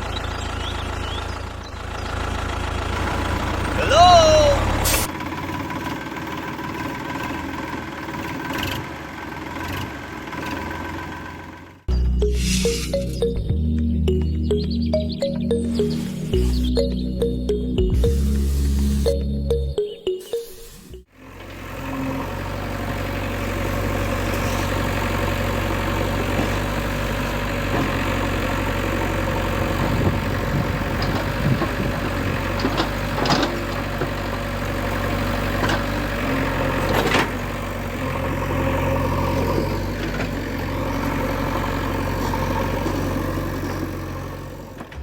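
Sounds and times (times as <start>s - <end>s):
tractor engine idling: 0.0s - 45.0s.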